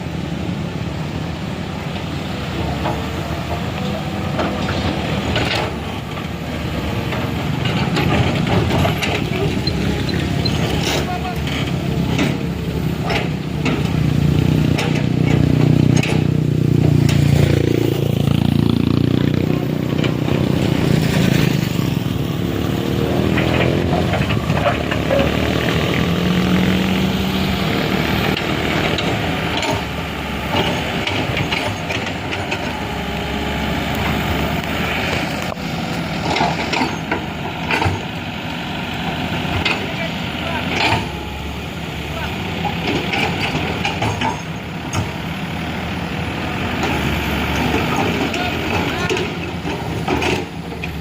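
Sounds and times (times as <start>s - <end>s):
heavy vehicle engine running: 0.0s - 51.0s.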